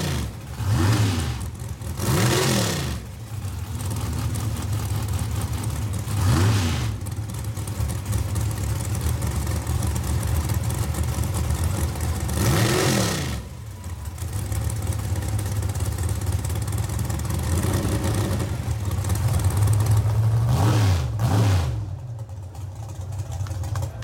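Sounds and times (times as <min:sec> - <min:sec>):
engine idling and revving: 0:00.0 - 0:24.0.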